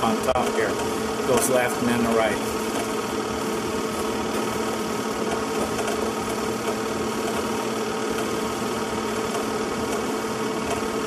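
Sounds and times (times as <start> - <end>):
mechanical whirring hum: 0.0 - 11.0.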